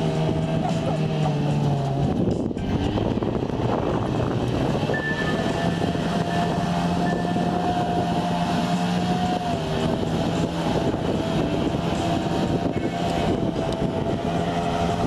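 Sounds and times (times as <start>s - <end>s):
two-stroke engine at high revs: 0.0s - 15.0s.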